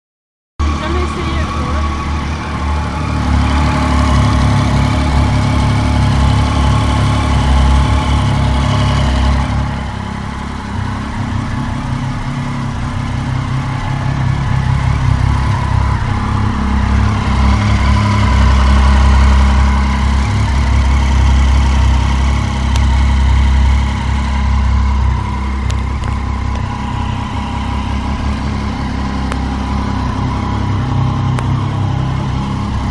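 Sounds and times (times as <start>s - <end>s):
motorcycle engine running: 0.6s - 32.9s.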